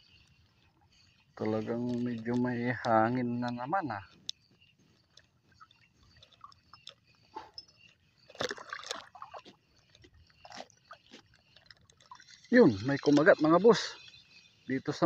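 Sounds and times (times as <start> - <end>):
faint water lapping: 0.0 - 15.0.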